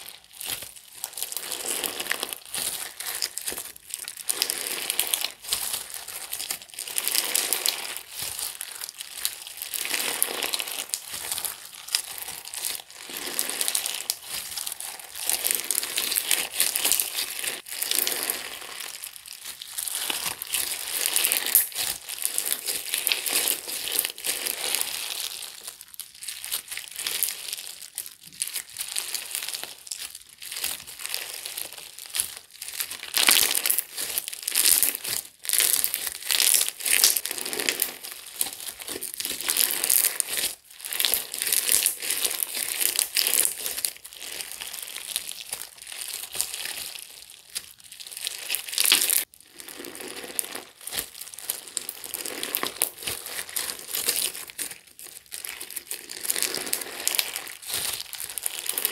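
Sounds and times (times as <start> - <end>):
crunchy slime crackling: 0.0 - 58.9.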